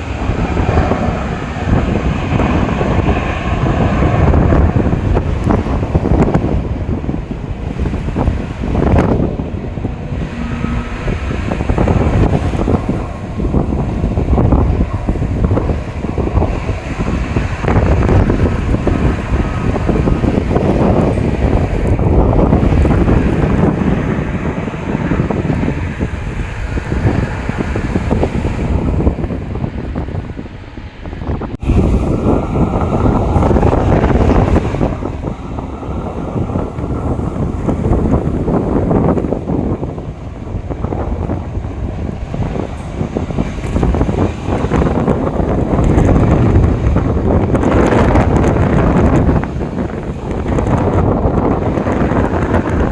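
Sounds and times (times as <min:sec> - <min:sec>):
jet engine rumbling: 0:00.0 - 0:52.9
wind buffeting microphone: 0:00.0 - 0:52.9.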